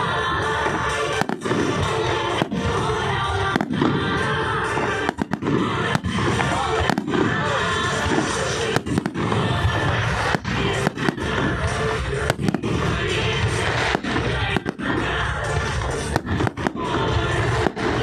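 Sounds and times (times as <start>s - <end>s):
fireworks bursting: 0.0s - 18.0s
loud music: 0.0s - 18.0s.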